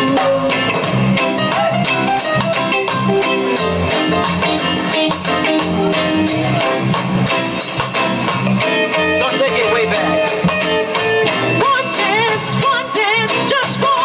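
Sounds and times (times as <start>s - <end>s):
electric guitar playing: 0.0s - 14.0s
steady drum beat: 0.0s - 14.0s.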